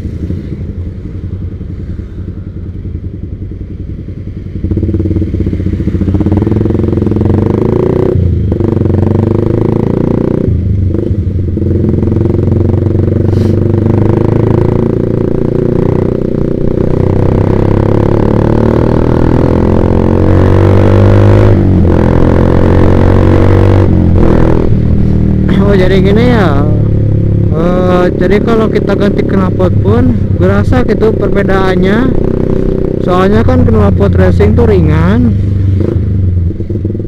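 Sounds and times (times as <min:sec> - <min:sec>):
motorcycle engine running loudly: 0:00.0 - 0:37.0.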